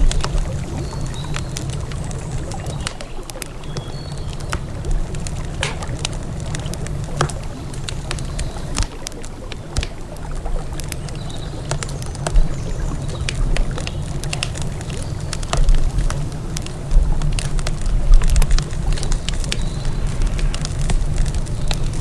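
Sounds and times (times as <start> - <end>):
campfire crackling: 0.0 - 22.0
river water flowing: 0.0 - 22.0
sharp pops and snaps: 0.0 - 22.0.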